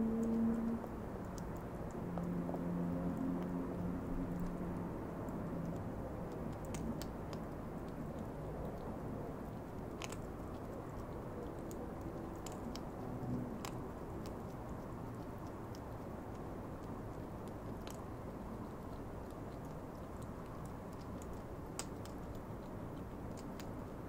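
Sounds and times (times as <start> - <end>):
hedgehog crunching kibble: 0.0 - 24.0.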